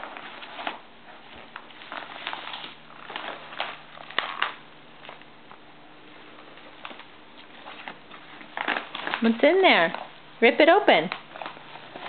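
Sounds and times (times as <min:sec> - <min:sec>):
paper mailer rustling: 0:00.0 - 0:05.3, 0:06.3 - 0:12.0.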